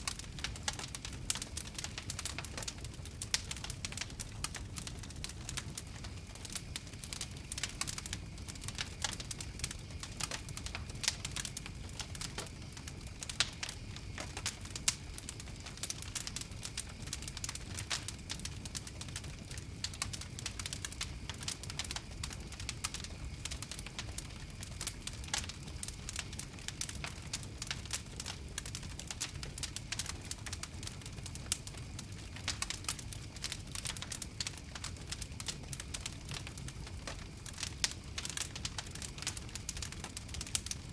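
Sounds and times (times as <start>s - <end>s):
rumble of flames: 0.0s - 40.9s
wood fire crackling and popping: 0.0s - 40.9s.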